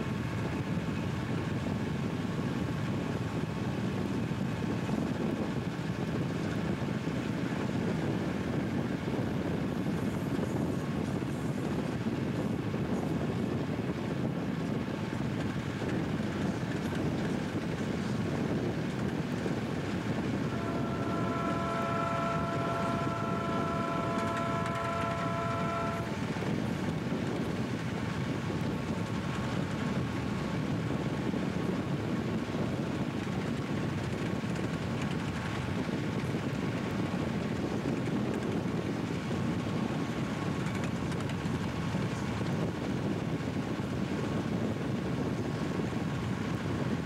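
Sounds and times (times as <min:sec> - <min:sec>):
diesel locomotives rumbling: 0:00.0 - 0:47.0
wind rushing on microphone: 0:00.0 - 0:47.0.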